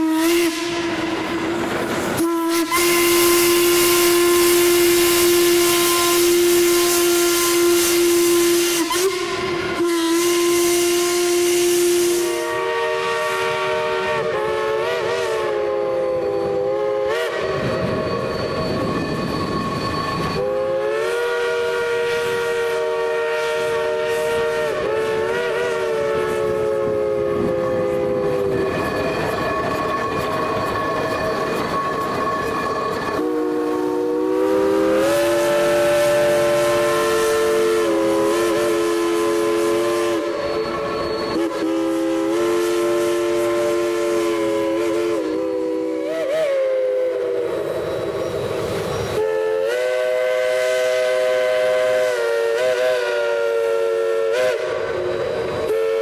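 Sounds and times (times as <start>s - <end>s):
steam hissing rush: 0.0s - 56.0s
steam locomotive chime whistle: 0.0s - 56.0s.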